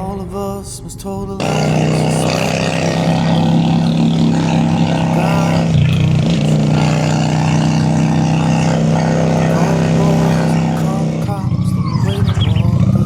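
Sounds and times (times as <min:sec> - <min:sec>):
motorcycle engine running: 0:01.4 - 0:13.0.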